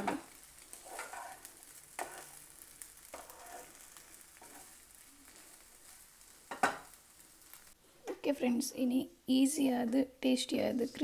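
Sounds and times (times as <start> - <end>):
food sizzling in a pan: 0.0 - 9.7.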